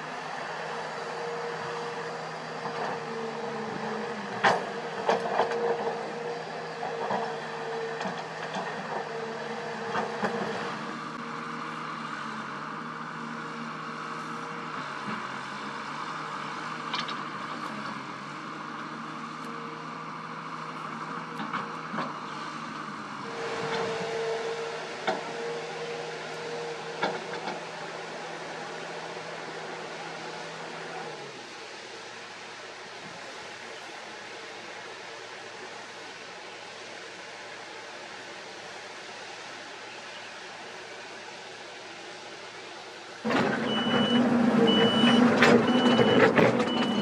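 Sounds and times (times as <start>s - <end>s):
excavator engine hum: 0.0s - 47.0s
hydraulic whine: 0.0s - 47.0s.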